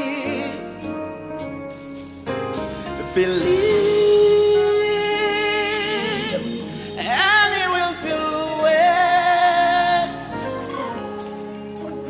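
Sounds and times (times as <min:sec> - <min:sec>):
man singing gospel: 0:00.0 - 0:01.1, 0:02.9 - 0:12.0
keyboard accompaniment: 0:00.0 - 0:12.0.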